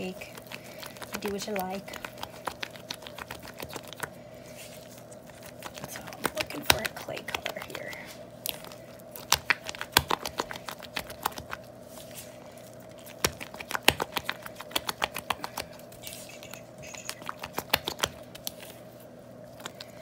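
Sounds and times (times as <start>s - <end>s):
spatula stirring buttercream: 0.0s - 20.0s
steady low hum: 0.0s - 20.0s.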